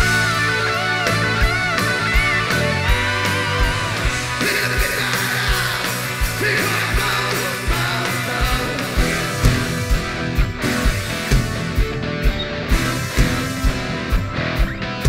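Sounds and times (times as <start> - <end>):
bass guitar: 0.0 - 15.0
electric guitar: 0.0 - 15.0.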